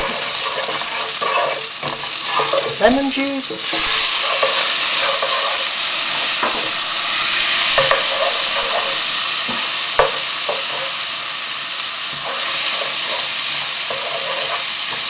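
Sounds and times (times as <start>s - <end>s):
wooden spoon scraping pan: 0.0s - 2.9s, 3.6s - 6.7s, 7.6s - 11.0s, 12.1s - 15.0s
chicken sizzling in hot oil: 0.0s - 15.0s.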